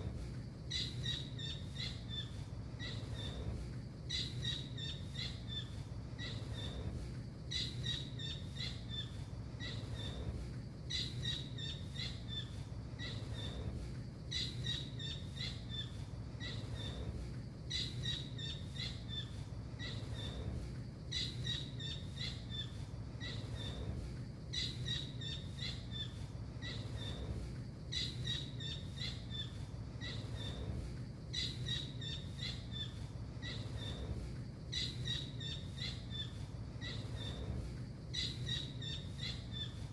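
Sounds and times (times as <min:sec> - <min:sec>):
steady low hum: 0:00.0 - 0:39.9
kingfisher high chirps: 0:00.7 - 0:10.3, 0:10.9 - 0:23.9, 0:24.5 - 0:27.3, 0:27.9 - 0:30.7, 0:31.3 - 0:39.9.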